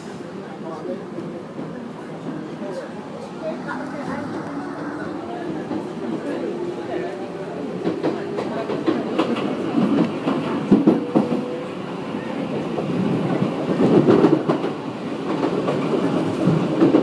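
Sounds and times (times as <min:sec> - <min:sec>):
passing train: 0:00.0 - 0:17.0
train running rumble: 0:03.2 - 0:17.0.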